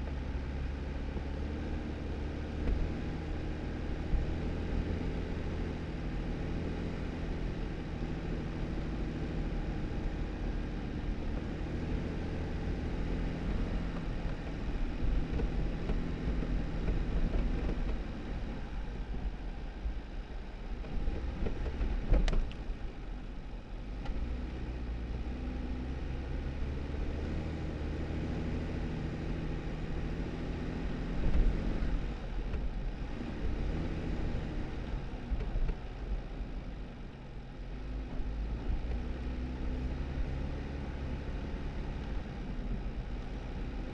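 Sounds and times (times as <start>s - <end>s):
car engine hum: 0.0s - 43.9s
car going over bumps: 0.0s - 43.9s.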